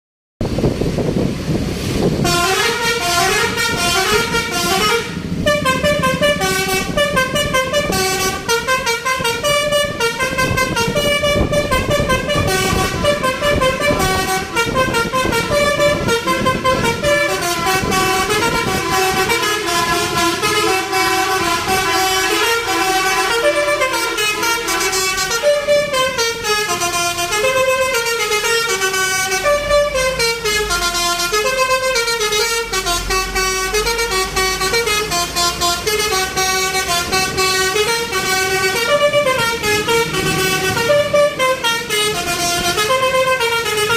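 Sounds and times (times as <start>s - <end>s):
bus musical horn melody: 2.1s - 43.9s.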